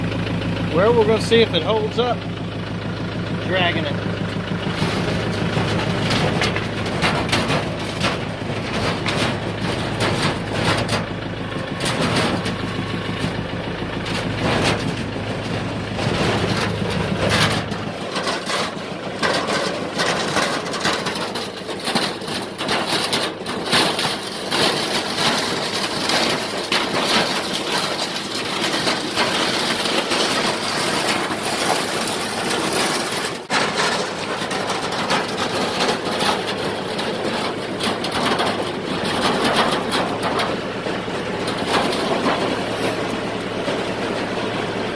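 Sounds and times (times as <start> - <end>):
engine humming: 0.0 - 44.9
sheet metal frame scraping on ground: 3.2 - 44.9.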